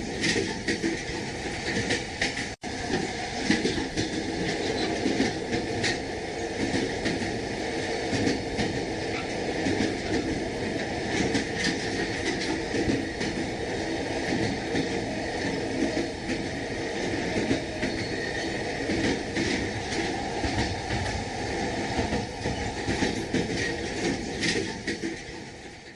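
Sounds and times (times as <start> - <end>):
train rumble: 0.0 - 25.9
train wheels clacking on rails: 0.0 - 25.9.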